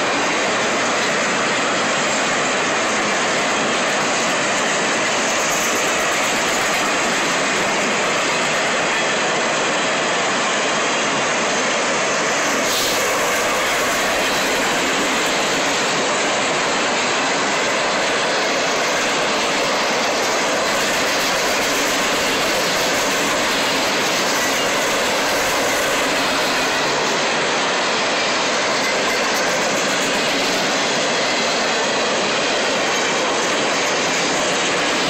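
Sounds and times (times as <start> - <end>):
freight train wheels on rail: 0.0 - 35.0.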